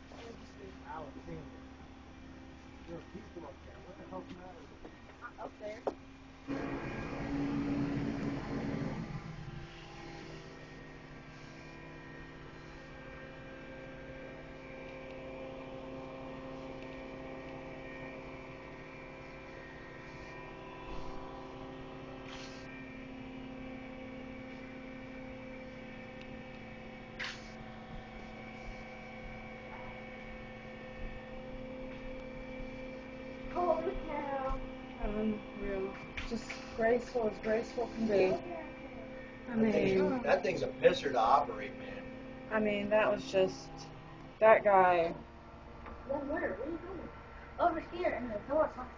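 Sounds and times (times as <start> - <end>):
crane engine humming: 6.2 - 48.9.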